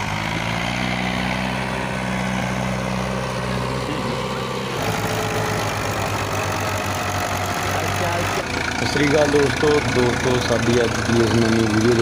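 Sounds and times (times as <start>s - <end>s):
tractor diesel engine running: 0.0s - 12.0s
tractor engine choppy low note: 0.0s - 12.0s.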